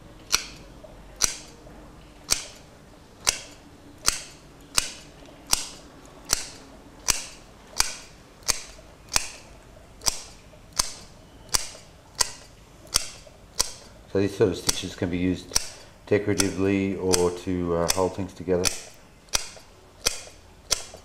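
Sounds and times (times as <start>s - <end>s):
hole punch clicking through leather: 1.2s - 1.6s, 2.3s - 13.9s, 14.6s - 14.9s, 15.5s - 21.0s.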